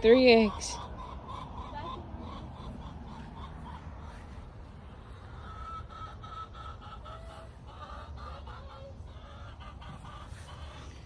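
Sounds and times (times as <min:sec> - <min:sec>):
hens clucking softly: 0:00.0 - 0:11.0.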